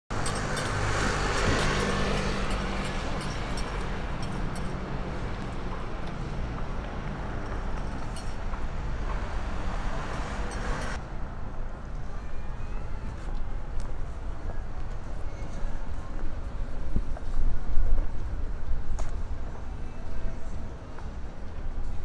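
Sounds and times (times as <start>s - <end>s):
cars running on street: 0.1s - 22.0s.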